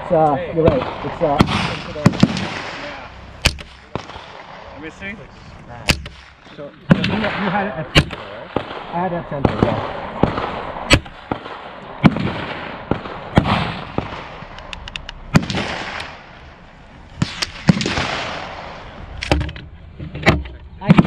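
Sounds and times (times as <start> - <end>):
rifle shots with echo: 0.4 - 5.0, 5.8 - 19.4.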